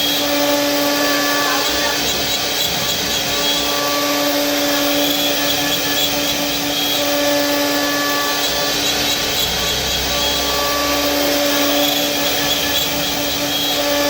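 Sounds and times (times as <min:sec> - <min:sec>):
power tool motor whine: 0:00.0 - 0:14.0.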